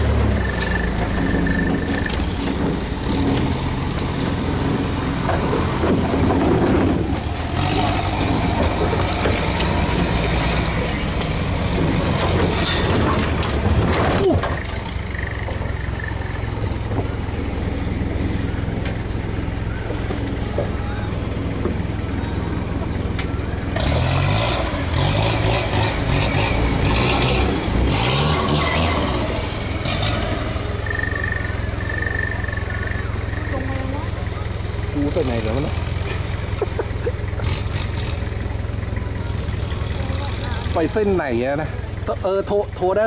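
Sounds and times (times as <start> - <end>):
branches scraping against car: 0.0 - 42.9
car engine running: 0.0 - 43.0.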